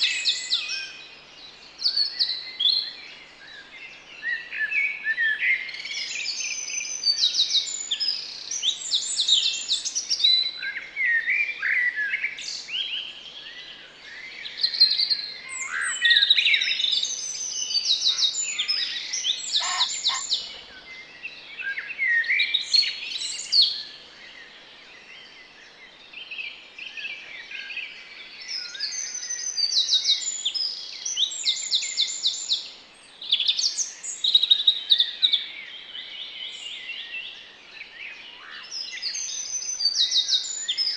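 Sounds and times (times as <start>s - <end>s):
garden birds singing: 0.0s - 40.9s.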